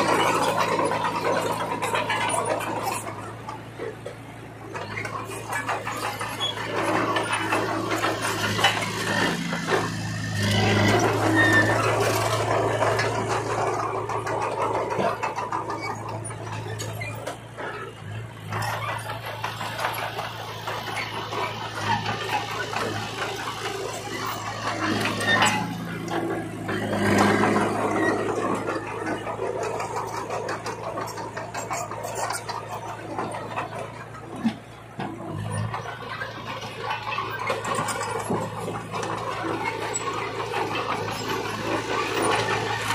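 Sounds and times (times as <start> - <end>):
blade pushing soil and rocks: 0.0 - 42.9
bulldozer diesel engine running: 0.0 - 42.9
steel tracks clattering: 0.0 - 42.9.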